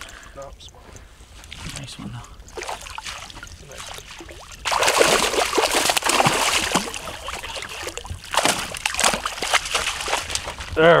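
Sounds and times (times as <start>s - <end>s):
water splashing and sloshing: 1.3s - 11.0s.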